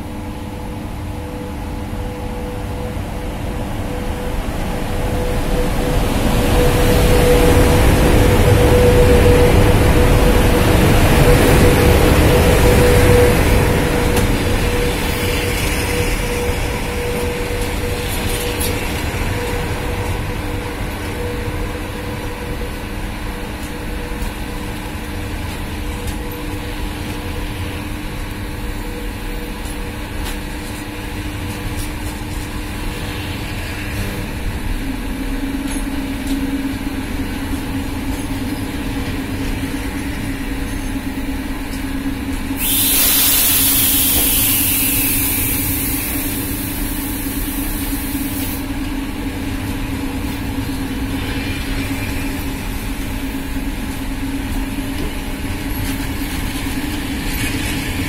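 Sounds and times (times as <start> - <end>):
train wheels rolling over rails: 3.9 - 58.0.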